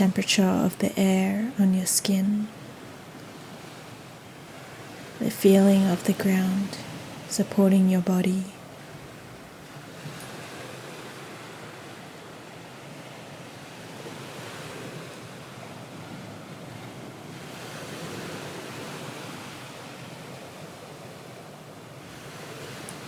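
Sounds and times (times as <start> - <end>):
ocean waves washing on shore: 0.0 - 23.0.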